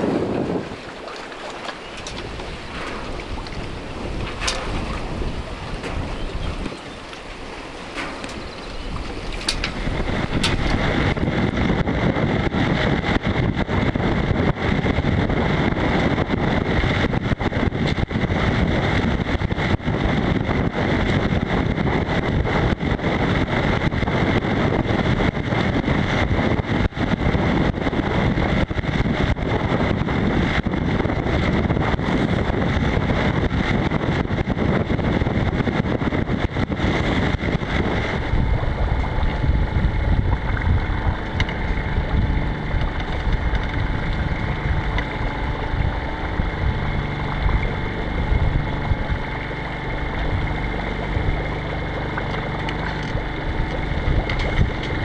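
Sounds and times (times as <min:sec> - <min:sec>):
gusty wind buffeting microphone: 0:00.0 - 0:55.0.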